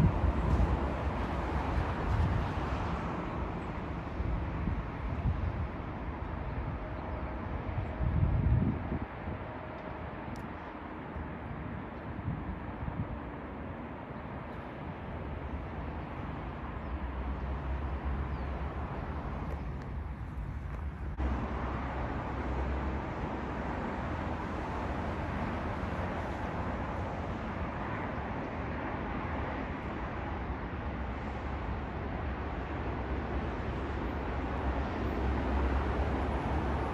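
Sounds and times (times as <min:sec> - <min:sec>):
road traffic noise: 0:00.0 - 0:36.9.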